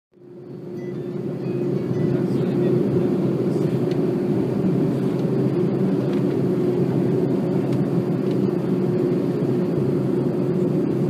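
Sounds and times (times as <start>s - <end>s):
jet engines droning: 0.2s - 11.0s.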